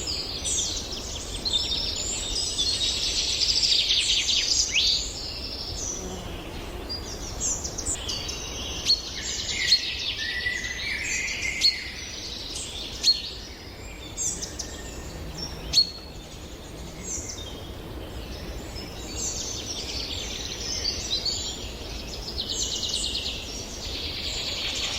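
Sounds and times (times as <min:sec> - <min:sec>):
songbirds singing and calling: 0:00.0 - 0:24.9.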